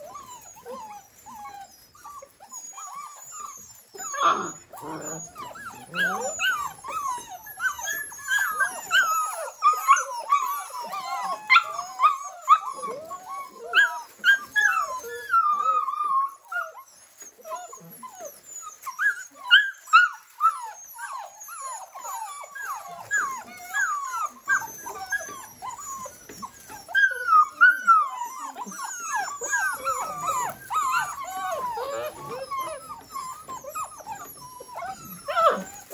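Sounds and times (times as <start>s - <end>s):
puppies whining: 0.0s - 35.9s.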